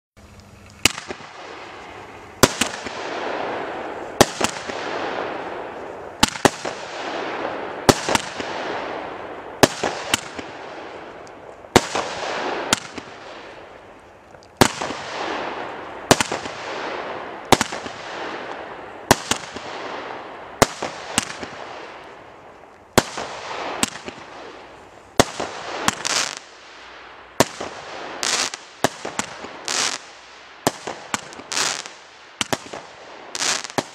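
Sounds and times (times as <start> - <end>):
crackle and hiss of stars: 0.2 - 33.9
firework bangs: 0.8 - 13.7, 14.6 - 22.2, 22.9 - 33.9.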